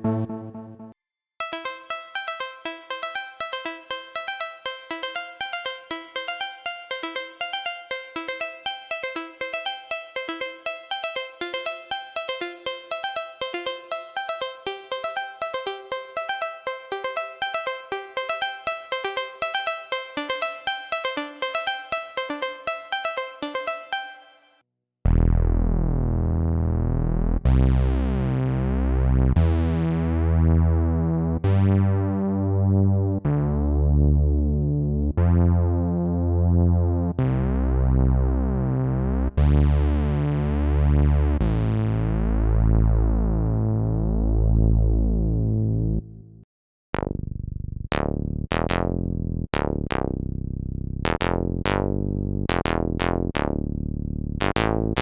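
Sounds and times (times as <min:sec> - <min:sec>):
synthesizer low chords: 0:00.0 - 0:24.1, 0:25.1 - 0:46.2, 0:47.0 - 0:55.0
synthesizer plucked notes: 0:00.0 - 0:46.2, 0:51.0 - 0:55.0.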